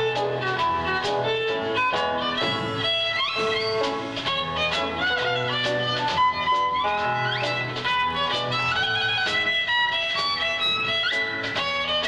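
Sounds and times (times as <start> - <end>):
jazz band playing: 0.0 - 12.0
violin melody with slides: 0.0 - 12.0.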